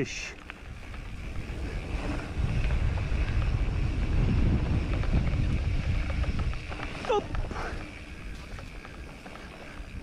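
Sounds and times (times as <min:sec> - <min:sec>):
bike clicks and rattles: 0:00.0 - 0:10.0
bike tyre noise: 0:00.0 - 0:10.0
wind buffeting microphone: 0:00.0 - 0:10.0.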